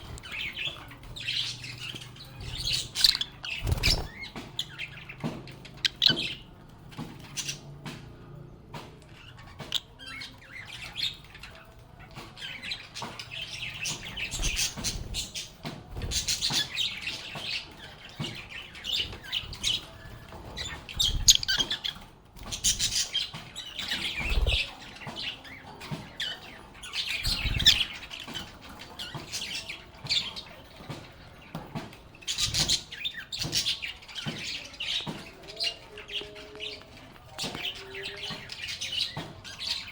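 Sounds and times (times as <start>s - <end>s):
lovebirds chirping: 0.0s - 7.8s, 9.0s - 39.9s.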